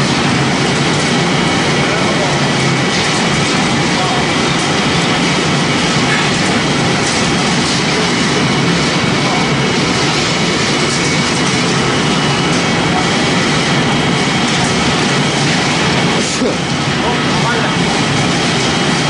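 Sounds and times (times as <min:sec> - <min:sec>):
pellet making machine running: 0:00.0 - 0:19.0.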